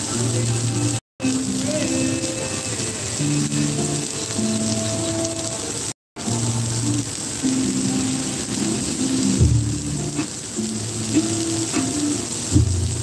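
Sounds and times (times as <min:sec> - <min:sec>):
sausages sizzling on griddle: 0:00.0 - 0:13.0.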